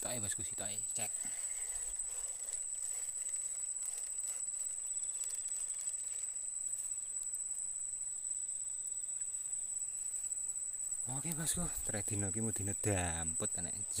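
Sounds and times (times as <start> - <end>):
insects calling: 0.0 - 14.0.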